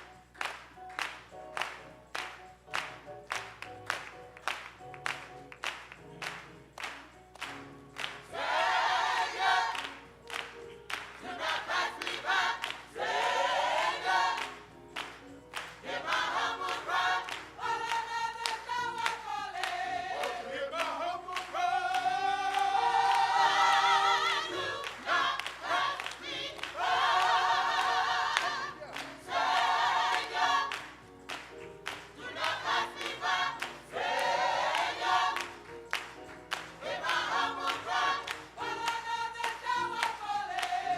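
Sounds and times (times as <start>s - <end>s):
gospel choir singing: 8.0s - 40.9s.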